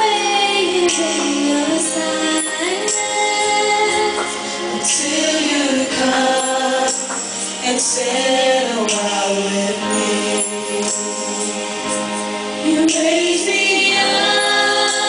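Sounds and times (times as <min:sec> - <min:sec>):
instrumental backing: 0:00.0 - 0:15.0
women singing into microphones: 0:00.0 - 0:15.0.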